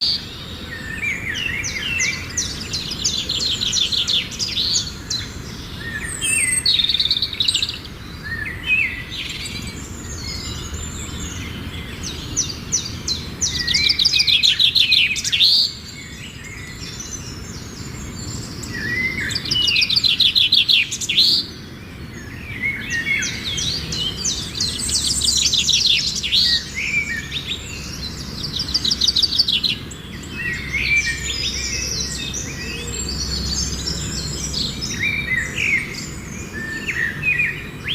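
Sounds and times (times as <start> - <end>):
small birds singing: 0.0 - 37.9.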